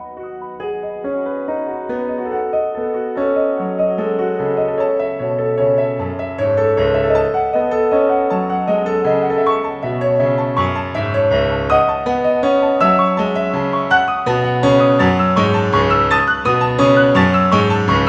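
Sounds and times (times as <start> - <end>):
piano piece: 0.0 - 18.0.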